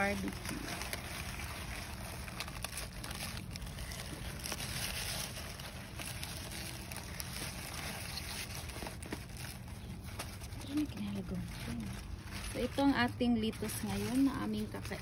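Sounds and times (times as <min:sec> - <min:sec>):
lettuce leaves rustling and snapping: 0:00.0 - 0:15.0.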